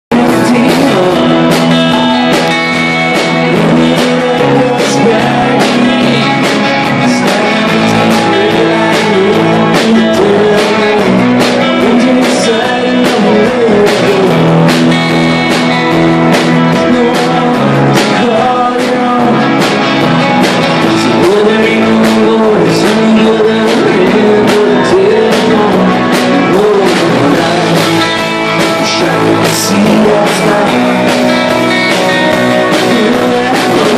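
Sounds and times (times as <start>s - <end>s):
live rock band playing: 0.1s - 33.9s.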